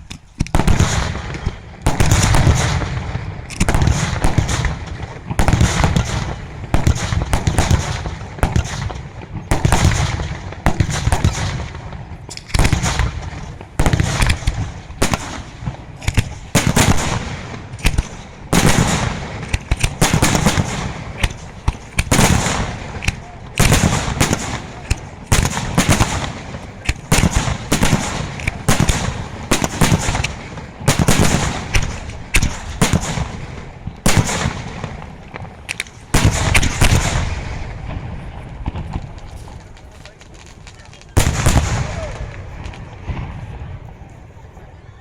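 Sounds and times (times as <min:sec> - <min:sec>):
fireworks shells bursting: 0:00.0 - 0:38.0.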